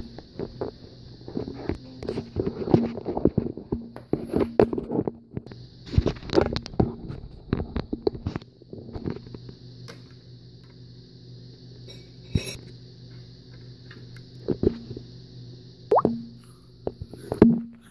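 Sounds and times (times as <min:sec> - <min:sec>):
steady mechanical hum: 0:00.0 - 0:17.9.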